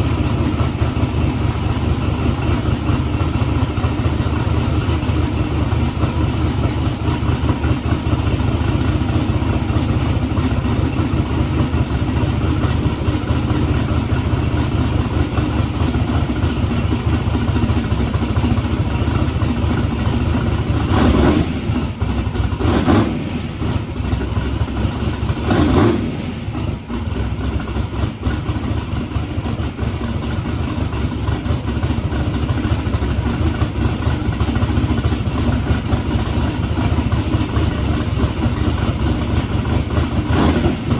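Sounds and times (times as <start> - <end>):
car engine idling: 0.0 - 40.9
engine throttle blips: 0.0 - 40.9.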